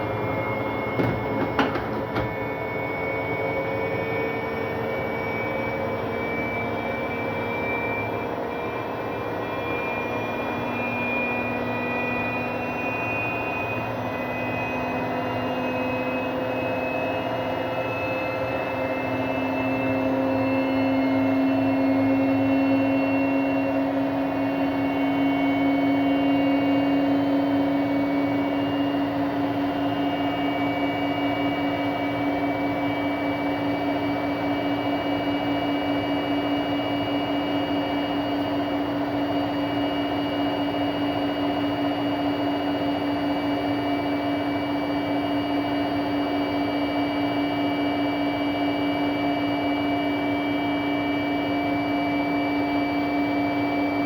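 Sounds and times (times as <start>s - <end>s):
washing machine mechanical drone: 0.0s - 54.0s.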